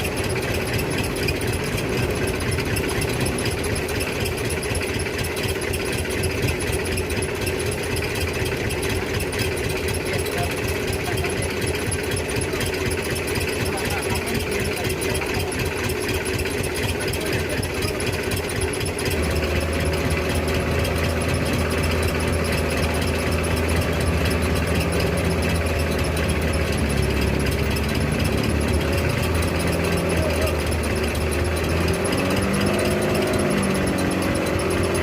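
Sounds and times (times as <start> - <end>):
diesel truck engine under load: 0.0 - 35.0.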